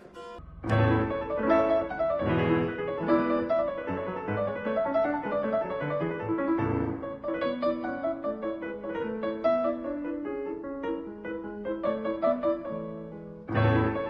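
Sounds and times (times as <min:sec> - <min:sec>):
classical piano music: 0:00.0 - 0:14.0
deep bass piano chords: 0:00.0 - 0:14.0.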